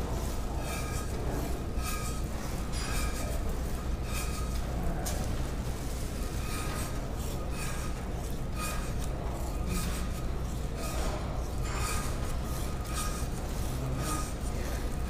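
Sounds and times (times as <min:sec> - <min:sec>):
rasp scraping plaster: 0:00.0 - 0:15.0.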